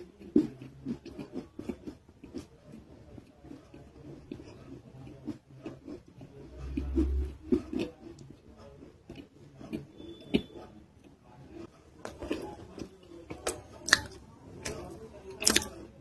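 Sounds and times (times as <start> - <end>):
chewing with wet mouth sounds: 0.0 - 16.0.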